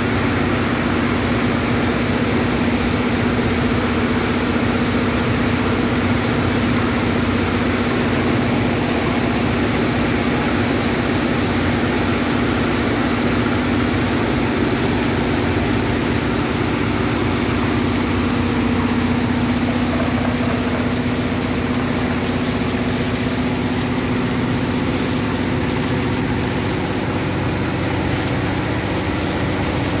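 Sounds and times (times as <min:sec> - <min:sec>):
heavy rain splashing on water: 0:00.0 - 0:30.0
low motor hum: 0:00.1 - 0:30.0.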